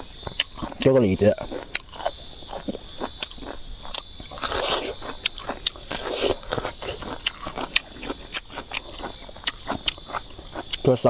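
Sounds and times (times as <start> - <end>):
wet chewing and crunching: 0.0 - 11.0
mouth clicks: 0.2 - 11.0.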